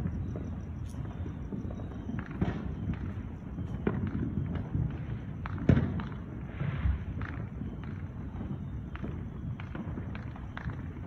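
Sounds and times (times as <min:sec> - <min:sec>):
fireworks popping and banging: 0:00.0 - 0:11.0.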